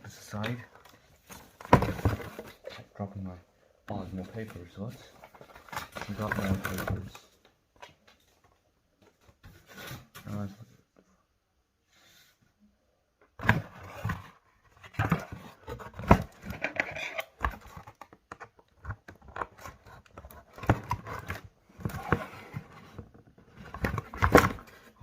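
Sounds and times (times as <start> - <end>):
paper and cardboard rustling: 0.1 - 3.1, 3.9 - 10.6, 13.4 - 25.0.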